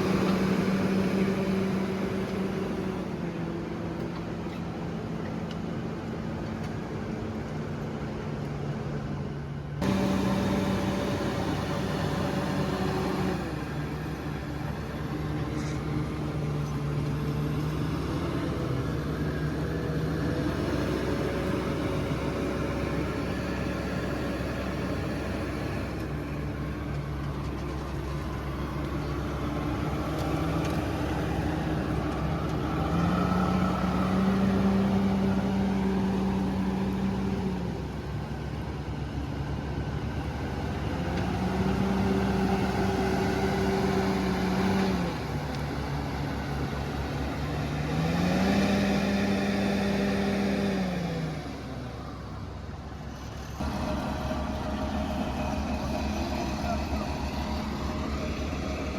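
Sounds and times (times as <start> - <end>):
heavy diesel engine revving: 0.0 - 5.1, 9.8 - 58.9.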